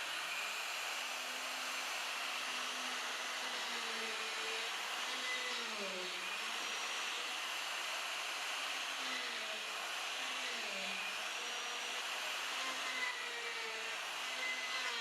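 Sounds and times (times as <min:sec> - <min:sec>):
electric router whining: 0:00.0 - 0:15.0.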